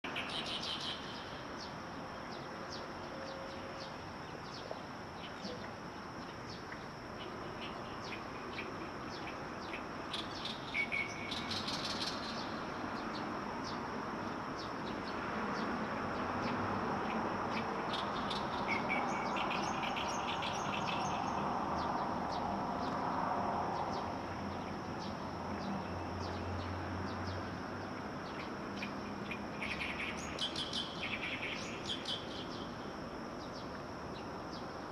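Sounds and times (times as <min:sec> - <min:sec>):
steady background noise: 0:00.0 - 0:34.9
songbirds chirping: 0:00.1 - 0:34.9.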